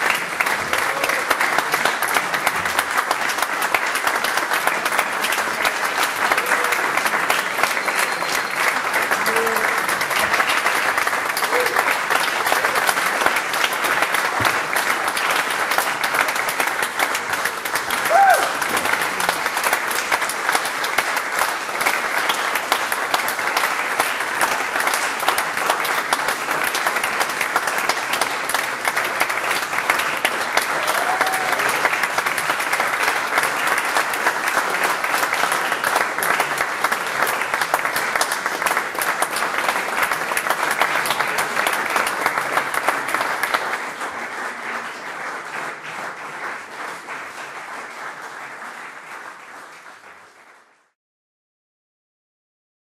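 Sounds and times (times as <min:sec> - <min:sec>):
audience applauding: 0:00.0 - 0:51.0.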